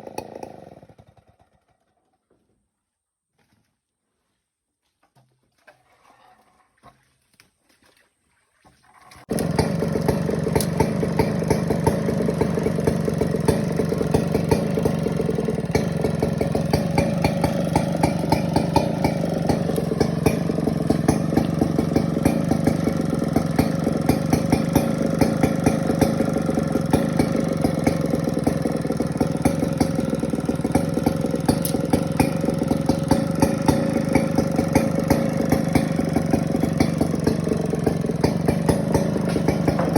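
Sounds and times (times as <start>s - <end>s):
chainsaw engine running: 0.0s - 2.1s, 9.2s - 39.9s.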